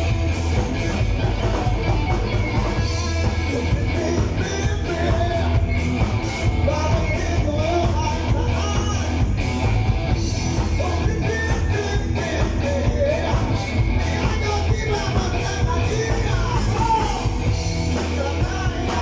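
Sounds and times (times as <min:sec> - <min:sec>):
heavy bass line: 0:00.0 - 0:19.0
steady drum beat: 0:00.0 - 0:19.0
person singing: 0:00.6 - 0:05.7, 0:06.4 - 0:09.3, 0:10.7 - 0:17.4, 0:18.0 - 0:19.0.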